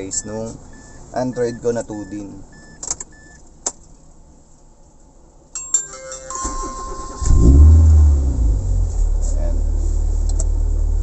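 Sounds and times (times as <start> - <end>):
car engine starting and idling: 0.0 - 4.3, 6.3 - 11.0.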